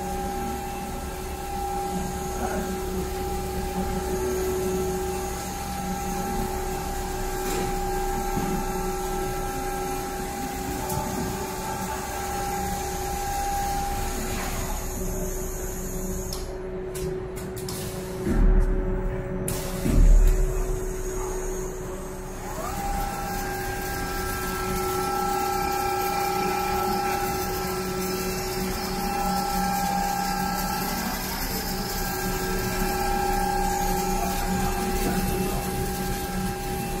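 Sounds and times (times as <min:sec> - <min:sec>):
motor whine: 0:00.0 - 0:17.3, 0:19.6 - 0:37.0
electric hum: 0:00.0 - 0:37.0.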